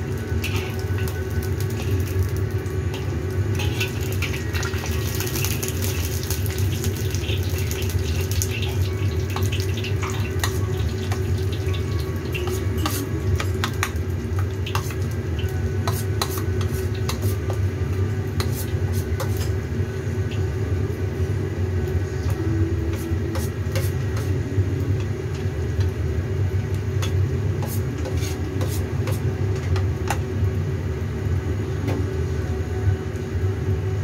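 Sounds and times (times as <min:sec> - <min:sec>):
food frying in hot oil: 0:00.0 - 0:32.2
low steady hum: 0:00.0 - 0:34.0.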